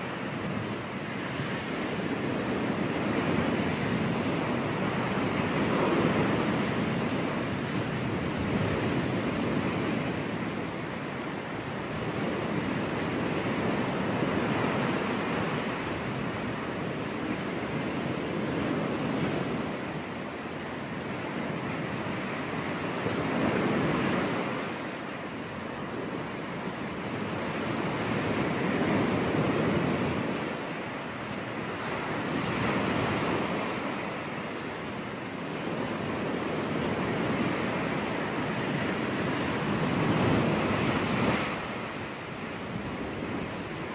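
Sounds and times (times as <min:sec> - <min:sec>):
ocean waves breaking on beach: 0:00.0 - 0:43.9.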